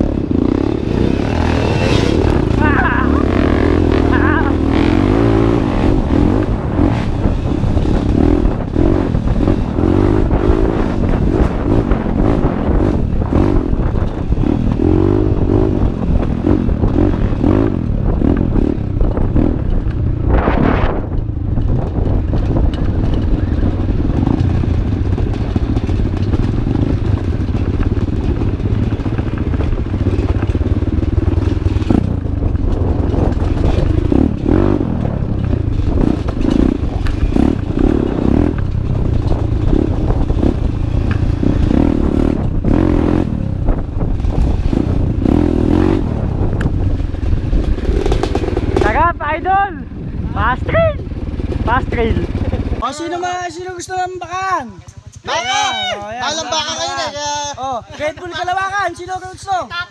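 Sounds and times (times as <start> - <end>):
dirt bike engine revving: 0.0 - 52.8.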